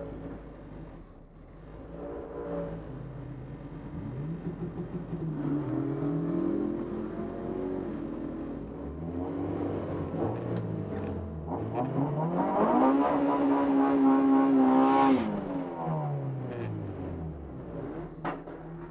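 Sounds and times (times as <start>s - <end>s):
race car engines accelerating: 0.0s - 18.9s.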